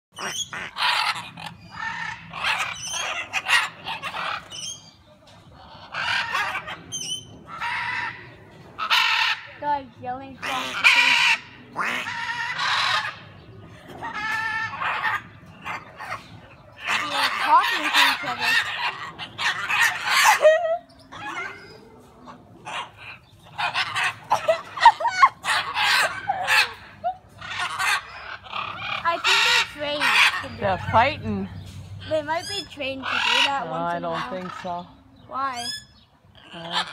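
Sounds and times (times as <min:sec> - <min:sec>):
parrots screeching: 0:00.1 - 0:36.9.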